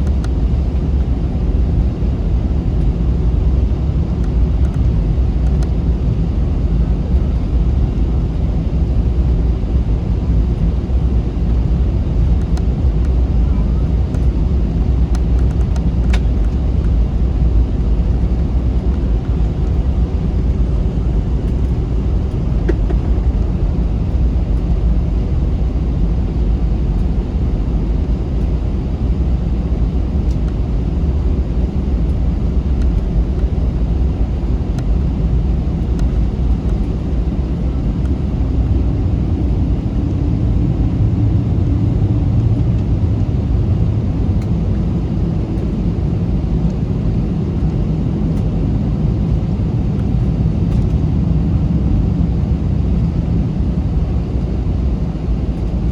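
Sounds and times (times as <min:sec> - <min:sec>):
jet engines rumbling in cabin: 0:00.0 - 0:55.9.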